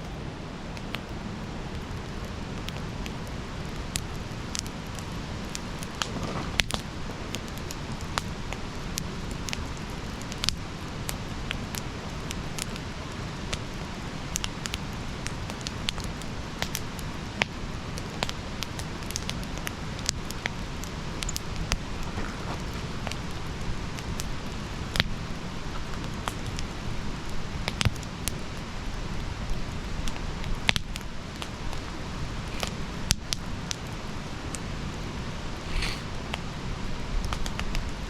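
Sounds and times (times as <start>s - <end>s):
campfire crackles and pops: 0.0s - 38.0s
low rush of flames: 0.0s - 38.0s.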